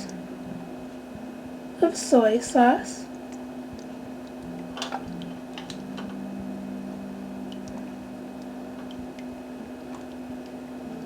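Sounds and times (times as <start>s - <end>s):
faint liquid sounds: 0.0s - 11.0s
steady electrical hum: 0.0s - 11.0s.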